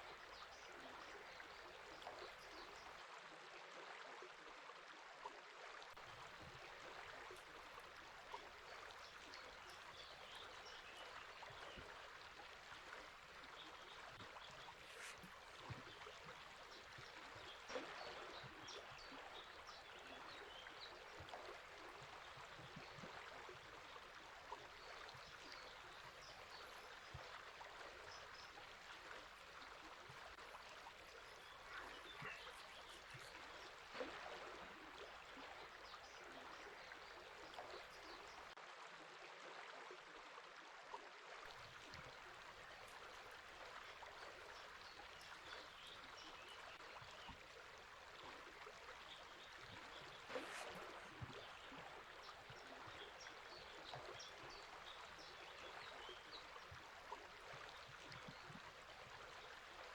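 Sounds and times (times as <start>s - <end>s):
river water running: 0.0s - 39.9s, 41.1s - 59.9s.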